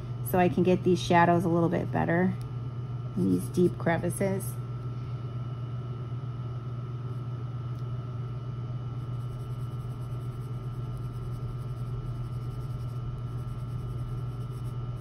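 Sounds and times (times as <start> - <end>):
faint high whine: 0.0 - 15.0
low background hum: 0.0 - 15.0.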